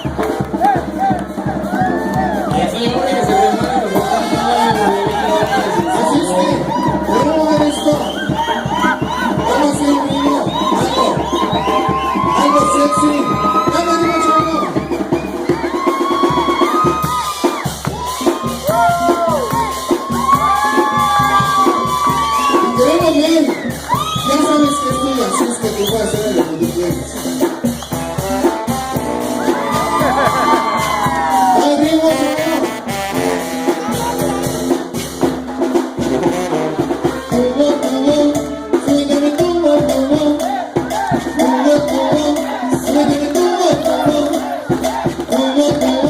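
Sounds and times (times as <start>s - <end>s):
loud dance music: 0.0s - 46.0s.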